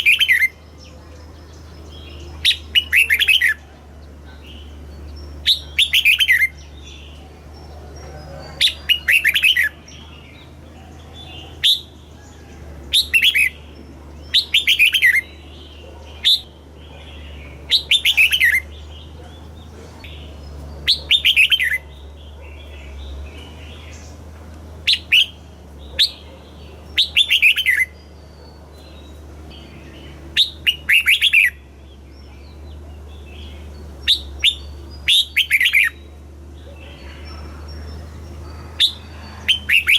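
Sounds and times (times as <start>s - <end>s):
bulbul singing whistles: 0.0s - 10.6s, 11.2s - 19.2s, 20.0s - 24.1s, 24.8s - 39.9s
steady low hum: 0.0s - 39.9s.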